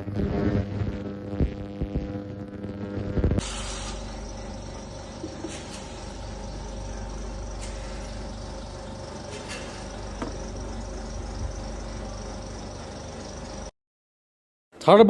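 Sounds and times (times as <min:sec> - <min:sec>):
machine hum with throb: 0:00.0 - 0:13.7.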